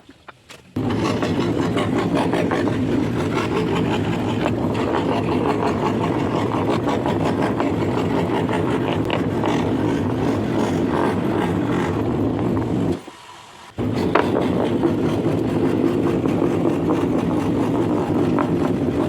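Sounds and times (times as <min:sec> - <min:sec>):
scroll saw cutting wood: 0:00.8 - 0:19.0.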